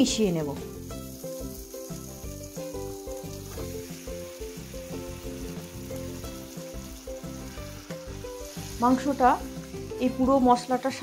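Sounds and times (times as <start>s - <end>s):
paste sizzling in oil: 0.0s - 11.0s
soft background music: 0.0s - 11.0s.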